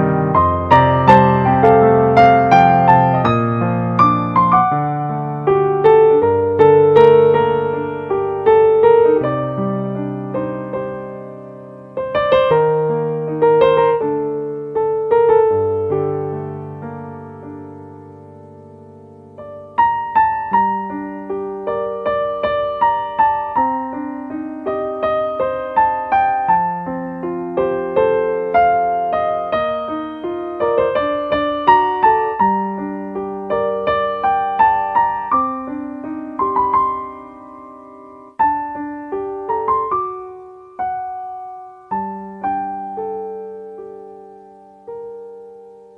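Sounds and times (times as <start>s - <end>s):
calm solo piano music: 0.0s - 45.9s.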